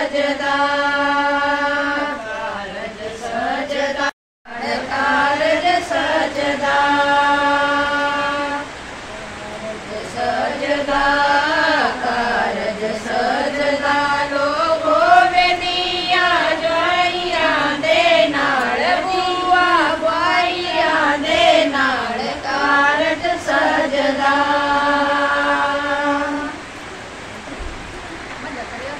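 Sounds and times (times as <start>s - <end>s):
women singing unaccompanied: 0.0s - 27.9s.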